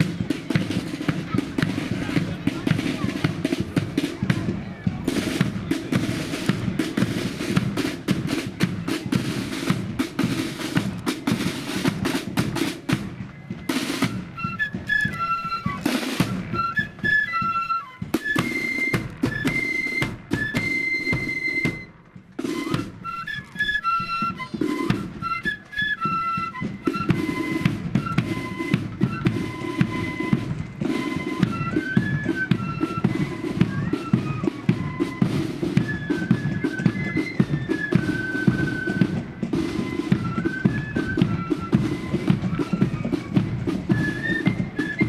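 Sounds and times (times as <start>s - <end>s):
flute melody: 0.0s - 45.0s
snare drum beats: 0.0s - 45.0s.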